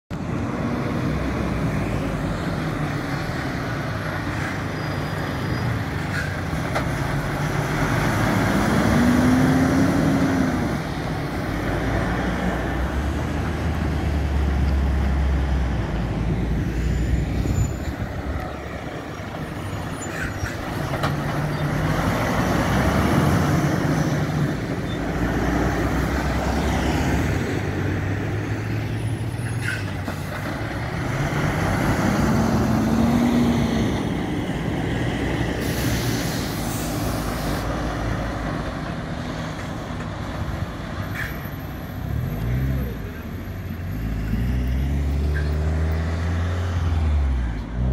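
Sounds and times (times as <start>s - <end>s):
lorries driving past: 0.1s - 47.9s
tyre and road noise: 0.1s - 47.9s.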